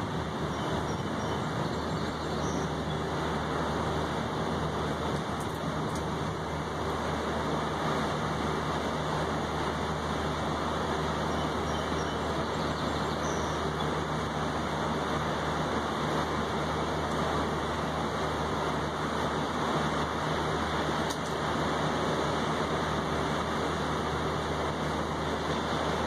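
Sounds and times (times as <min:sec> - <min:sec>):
heavy rain falling: 0:00.0 - 0:26.0
low steady hum: 0:00.0 - 0:26.0.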